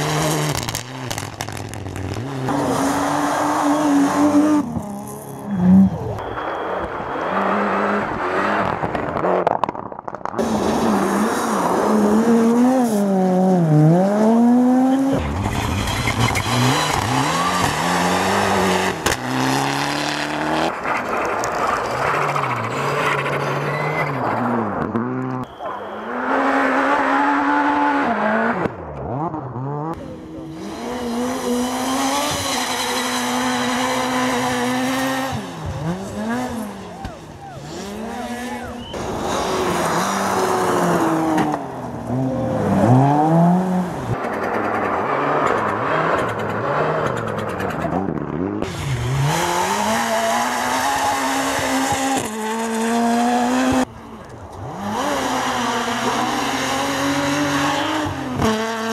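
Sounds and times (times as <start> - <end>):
rally cars passing at speed: 0.0 - 58.9.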